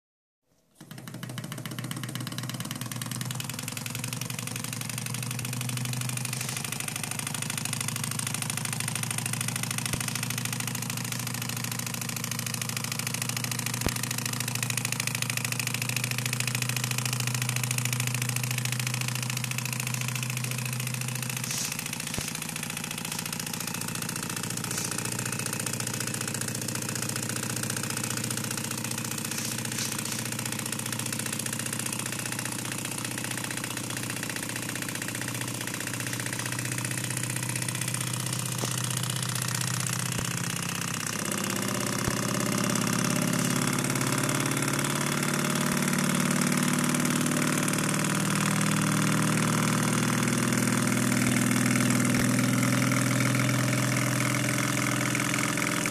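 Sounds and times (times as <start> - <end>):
small engine mechanical rattle: 0.7 - 55.9.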